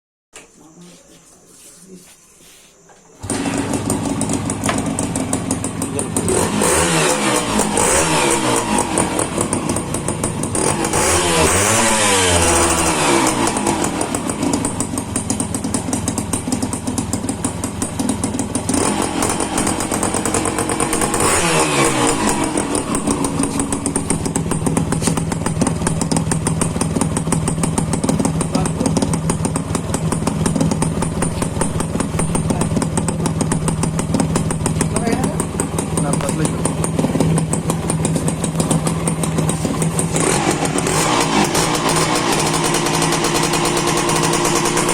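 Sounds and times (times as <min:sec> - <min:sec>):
motorcycle engine revving: 0:03.2 - 0:44.9.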